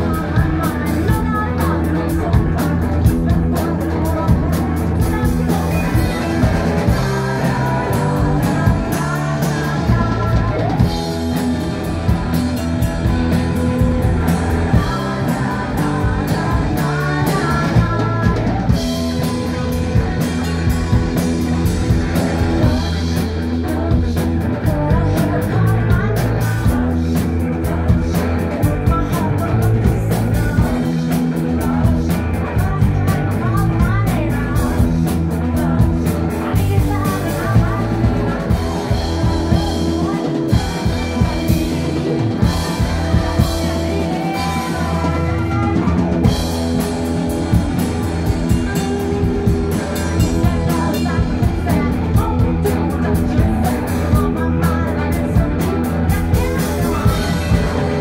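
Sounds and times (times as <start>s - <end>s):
drum kit: 0.0s - 58.0s
electric guitar: 0.0s - 58.0s
woman singing: 0.0s - 58.0s.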